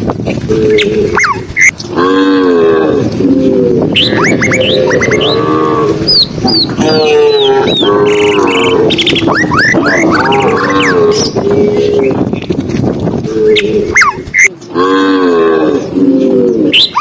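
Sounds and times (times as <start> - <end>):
cows mooing: 0.4 - 12.4, 13.2 - 17.0
birds chirping: 0.4 - 17.0.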